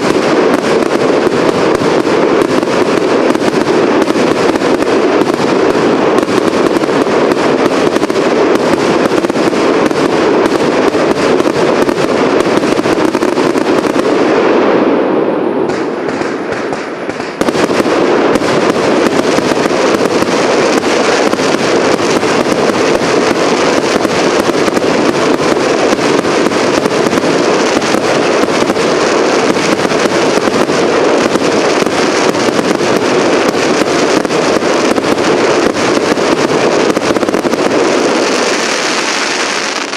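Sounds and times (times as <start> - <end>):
firework rapid bangs and crackling: 0.0 - 39.9.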